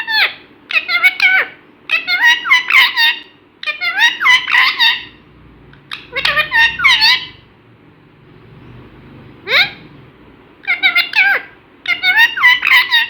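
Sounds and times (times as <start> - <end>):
parrot talking: 0.0 - 7.6, 9.4 - 10.0, 10.6 - 13.0.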